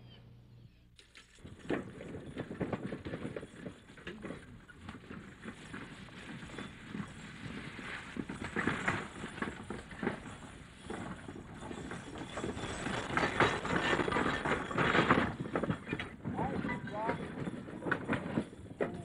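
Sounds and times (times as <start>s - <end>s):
hooves clip-clopping on dirt: 1.3s - 19.0s
knocks and rattles: 1.4s - 19.0s.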